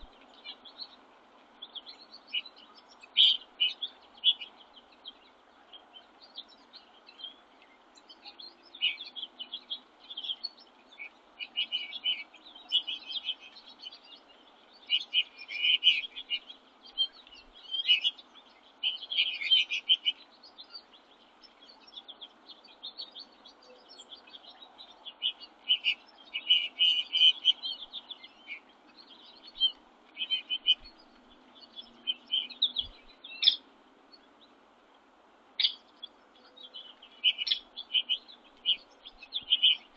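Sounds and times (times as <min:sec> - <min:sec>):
faint background hiss: 0:00.0 - 0:39.9
songbirds chirping: 0:00.0 - 0:39.9.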